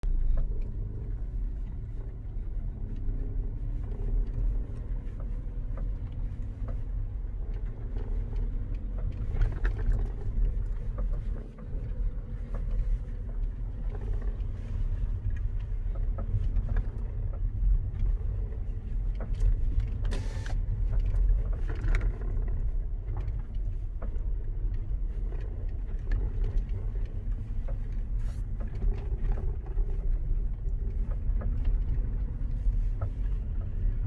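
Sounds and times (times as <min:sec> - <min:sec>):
car rumbling on the move: 0:00.0 - 0:34.0.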